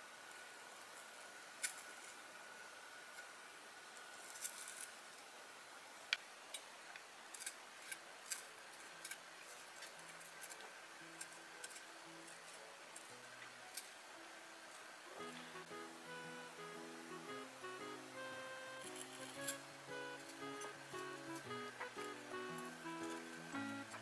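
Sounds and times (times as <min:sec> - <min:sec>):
faint music: 0:00.0 - 0:24.0.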